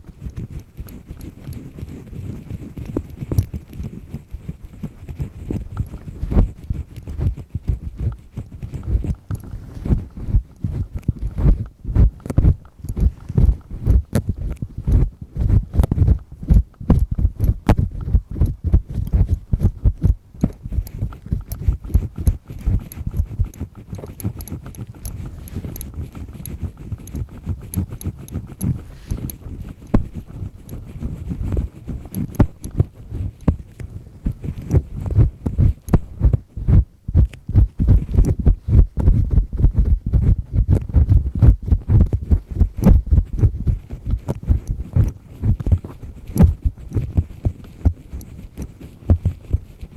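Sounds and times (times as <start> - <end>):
ear pick scraping in ear: 0.0 - 49.9.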